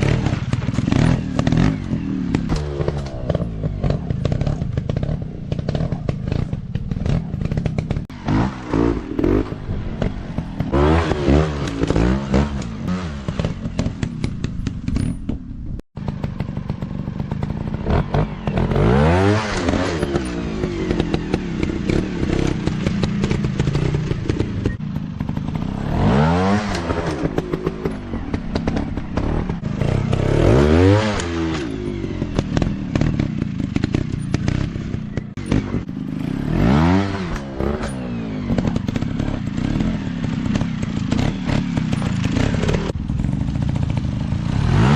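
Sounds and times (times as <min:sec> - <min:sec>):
dirt bike engines revving: 0:00.0 - 0:15.1, 0:16.0 - 0:44.9.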